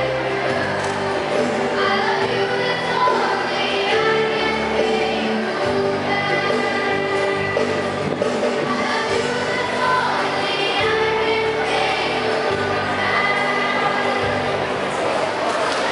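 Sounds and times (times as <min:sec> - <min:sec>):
group singing in chorus: 0:00.0 - 0:15.9.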